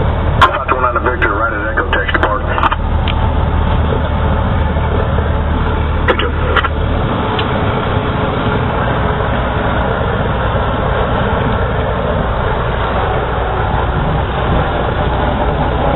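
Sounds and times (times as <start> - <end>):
propeller plane engine running: 0.0 - 15.9
wind and airflow noise: 0.0 - 15.9.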